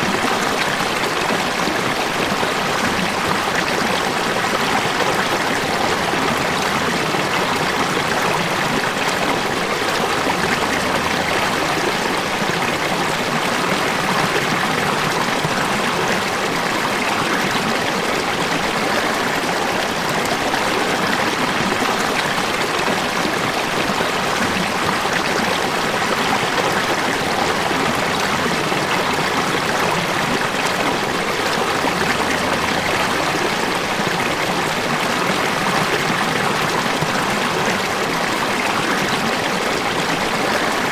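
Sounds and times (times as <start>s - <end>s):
water rushing and splashing: 0.0s - 40.9s.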